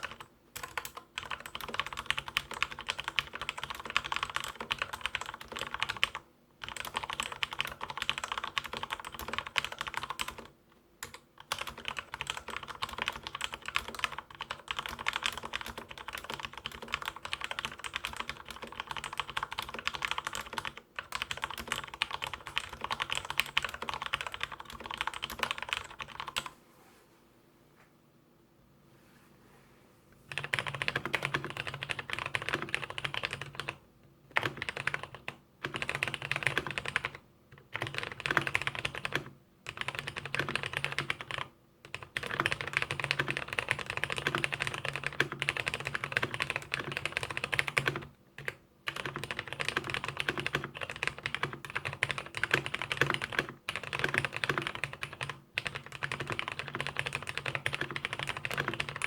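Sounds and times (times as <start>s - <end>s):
rapid typing on keyboard: 0.0s - 26.5s, 30.3s - 59.0s.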